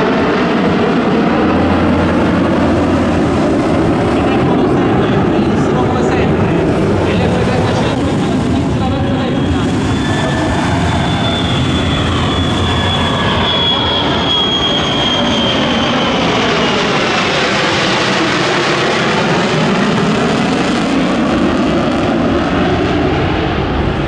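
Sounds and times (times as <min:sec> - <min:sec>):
jet roaring past: 0:00.0 - 0:24.0.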